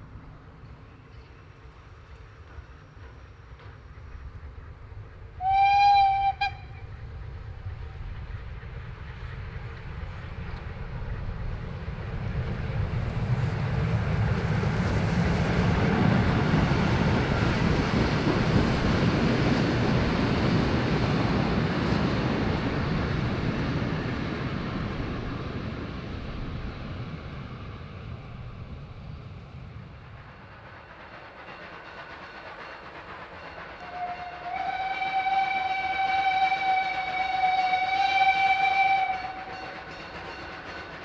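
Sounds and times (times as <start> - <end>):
steam locomotive passing: 0.0 - 41.0
train wheels on rails: 0.0 - 41.0.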